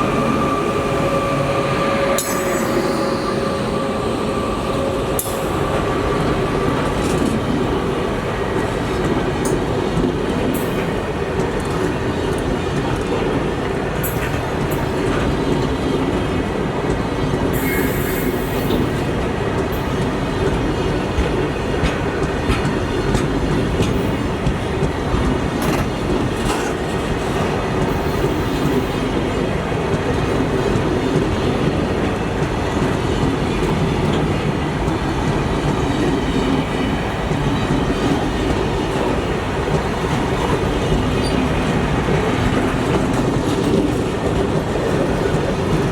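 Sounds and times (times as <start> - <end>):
train wheels rumbling on rails: 0.0 - 45.9
clickety-clack of rail joints: 6.8 - 45.9.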